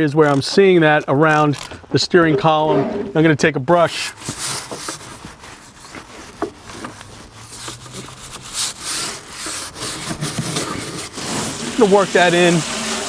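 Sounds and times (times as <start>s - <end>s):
scrub brush scrubbing deck: 2.3s - 13.0s.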